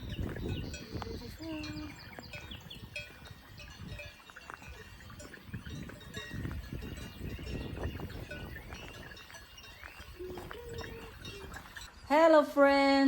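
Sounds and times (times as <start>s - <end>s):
cowbells clanking: 0.0s - 11.9s.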